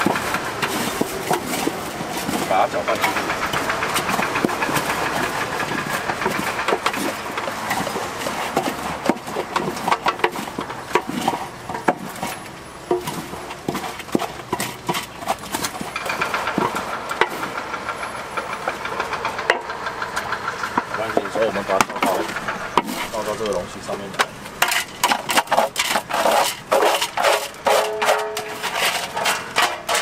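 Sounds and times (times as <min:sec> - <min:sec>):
paddles knocking and scraping pot: 0:00.0 - 0:30.0
steady mechanical hum: 0:00.0 - 0:30.0.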